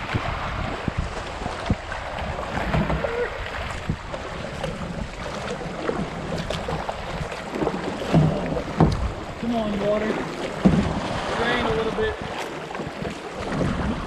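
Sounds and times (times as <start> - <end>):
creek water rushing: 0.0 - 14.0
water splashes: 0.0 - 14.0.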